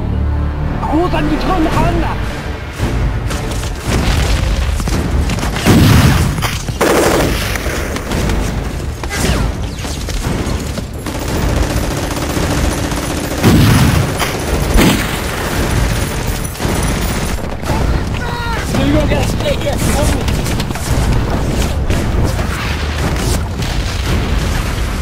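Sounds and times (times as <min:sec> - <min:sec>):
heavy explosions: 0:01.7 - 0:25.0
rifle and machine-gun fire: 0:03.6 - 0:25.0.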